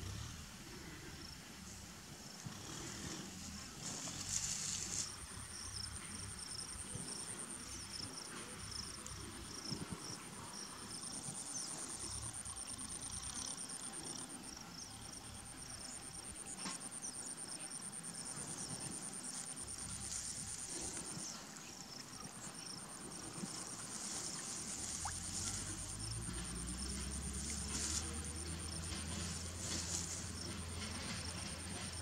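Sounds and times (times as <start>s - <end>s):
insects trilling: 2.2s - 32.0s.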